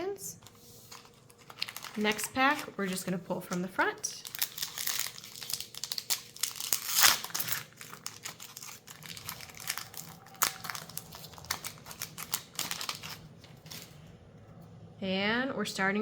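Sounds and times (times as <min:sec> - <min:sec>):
plastic wrapper crinkling and tearing: 0:00.4 - 0:14.0.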